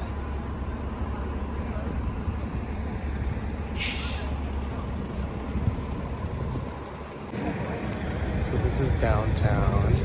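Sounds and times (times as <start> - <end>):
traffic engine rumble: 0.0 - 10.0.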